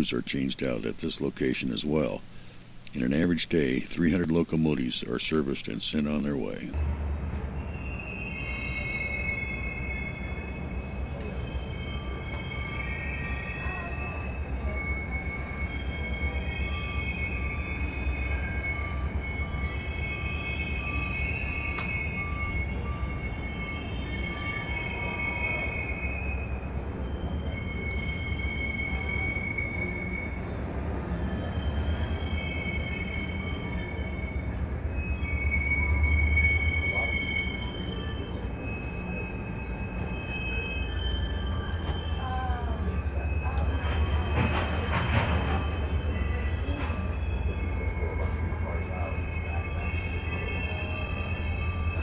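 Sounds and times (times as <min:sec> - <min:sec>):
freight train rumbling: 0:06.2 - 0:52.0
high-pitched wheel squeal: 0:06.8 - 0:52.0.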